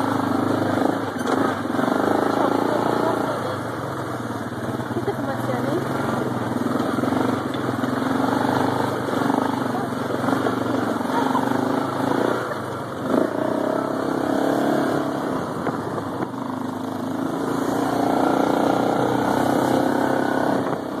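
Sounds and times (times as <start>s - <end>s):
small vehicle motor running: 0.0s - 21.0s.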